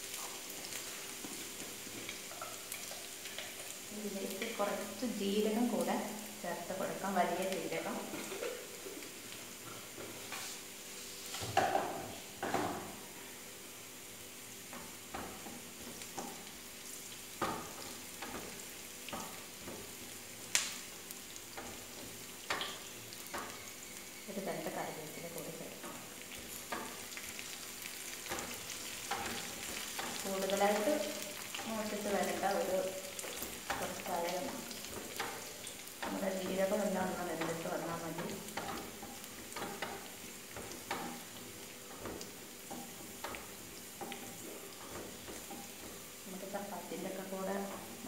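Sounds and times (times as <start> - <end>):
food sizzling in oil: 0.0 - 48.0.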